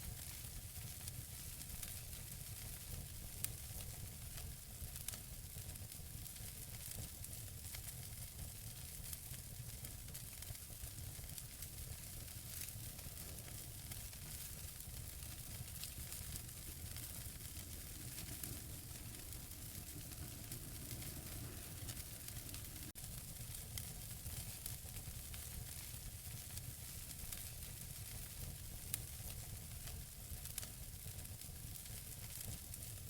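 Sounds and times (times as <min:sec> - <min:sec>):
wood fire hissing and crackling: 0:00.0 - 0:33.0.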